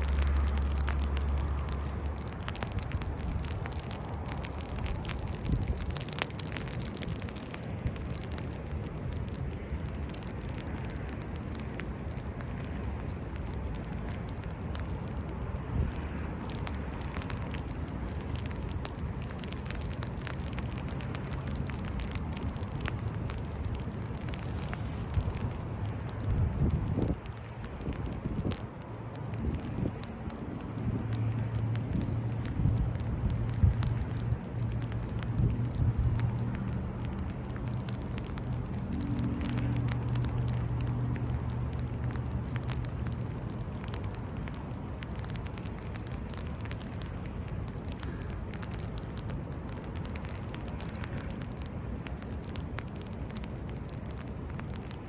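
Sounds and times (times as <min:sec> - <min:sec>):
sharp clicks and crackles: 0:00.0 - 0:55.0
wind rumbling on microphone: 0:00.0 - 0:55.0.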